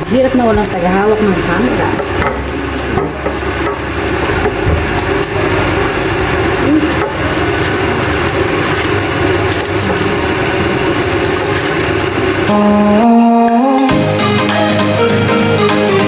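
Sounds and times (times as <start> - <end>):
machine whirring with low hum: 0.0 - 16.0.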